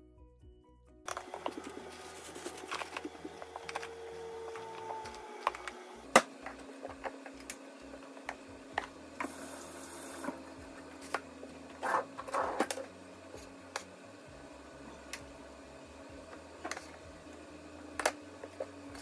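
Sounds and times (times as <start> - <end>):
faint steady hum: 1.1 - 19.0.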